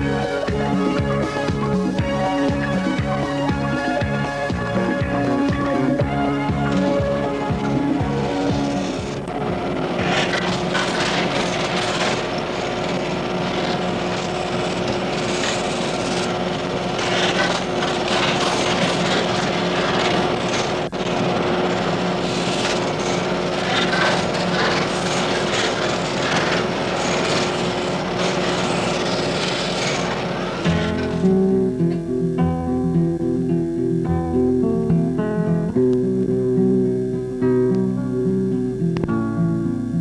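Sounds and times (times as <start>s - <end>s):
mechanical hum with noisy wash: 0.0s - 32.4s.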